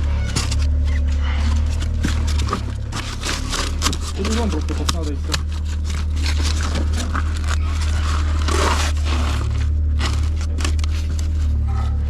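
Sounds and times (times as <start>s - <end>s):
scraping crinkling handling noise: 0.0s - 12.0s
steady low drone: 0.0s - 12.0s.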